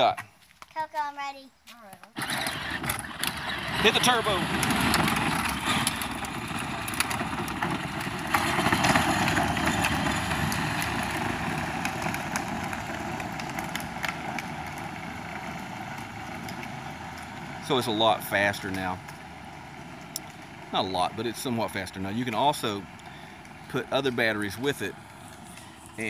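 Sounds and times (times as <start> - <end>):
plastic wheels rumbling on pavement: 2.0 - 26.0
electric motors and gearboxes running: 2.2 - 26.0.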